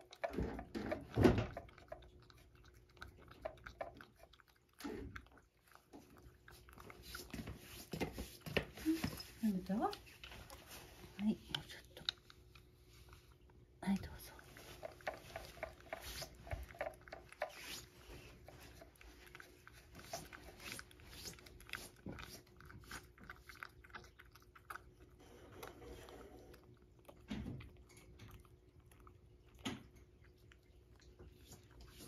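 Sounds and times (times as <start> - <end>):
cat licking from a bowl: 0.0 - 32.0.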